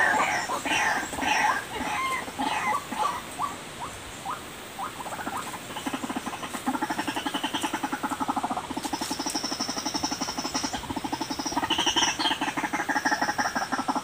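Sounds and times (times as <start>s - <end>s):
waterhen pulsing chatter call: 0.0s - 14.0s.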